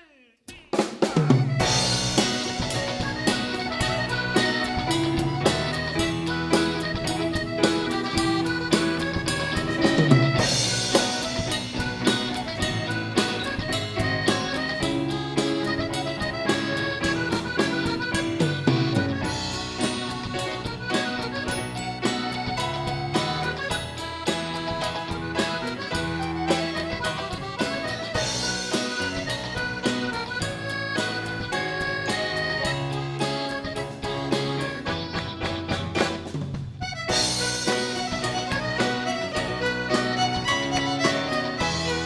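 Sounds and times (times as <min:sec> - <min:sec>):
live band music: 0:00.0 - 0:42.0
drum beat: 0:00.5 - 0:42.0
accordion: 0:01.0 - 0:42.0.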